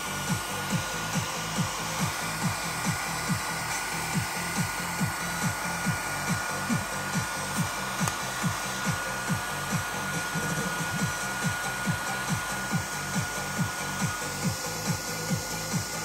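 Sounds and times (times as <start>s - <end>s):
background music with thumping beat: 0.0s - 16.0s
hair dryer blowing with motor whine: 0.0s - 16.0s.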